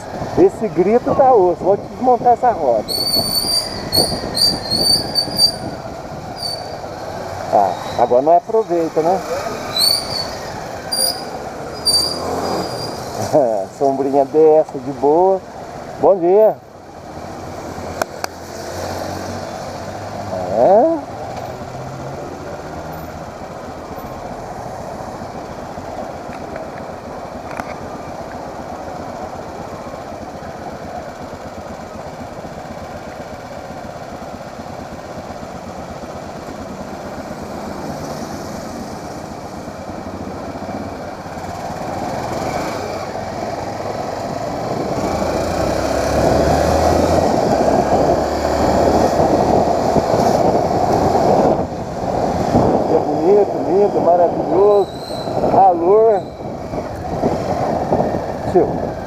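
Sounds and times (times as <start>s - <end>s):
motorcycle engine and road noise: 0.0s - 59.0s.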